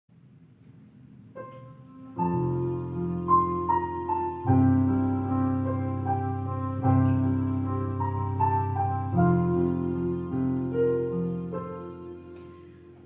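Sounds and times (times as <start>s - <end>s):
piano music: 1.2s - 13.0s.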